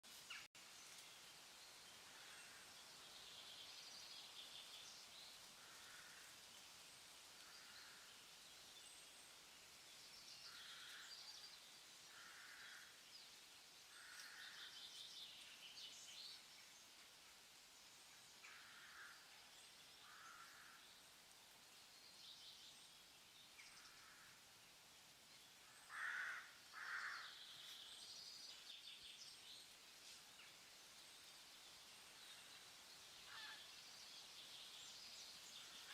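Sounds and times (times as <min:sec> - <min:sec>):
steady hiss: 0:00.0 - 0:35.9.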